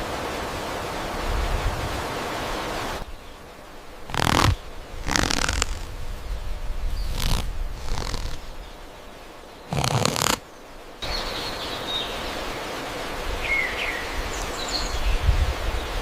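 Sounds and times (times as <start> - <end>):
outdoor background noise: 0.0 - 16.0
rustle: 0.0 - 16.0.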